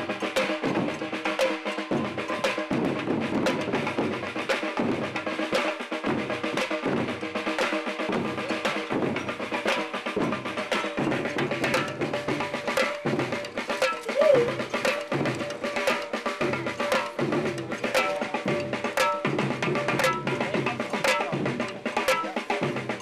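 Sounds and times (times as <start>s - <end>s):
drumming and banging percussion: 0.0s - 23.0s.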